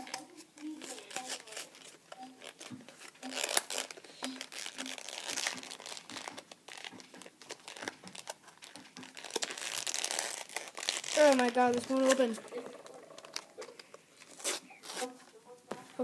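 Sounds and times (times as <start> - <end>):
plastic packaging crinkling and tearing: 0.0 - 15.2.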